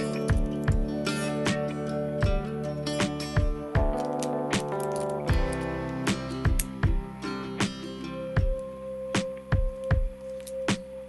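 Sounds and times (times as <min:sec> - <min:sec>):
guitar music with beat: 0:00.0 - 0:11.0.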